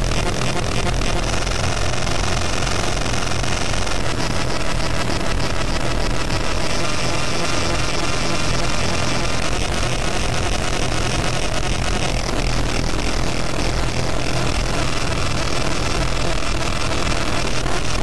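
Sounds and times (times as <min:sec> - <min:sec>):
harsh synth noise wall: 0:00.0 - 0:18.0.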